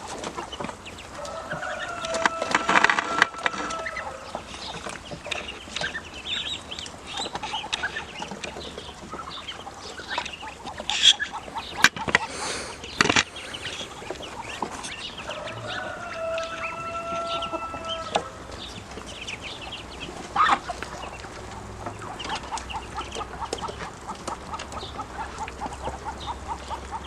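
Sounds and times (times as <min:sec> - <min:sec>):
ducklings peeping: 0:00.0 - 0:27.0.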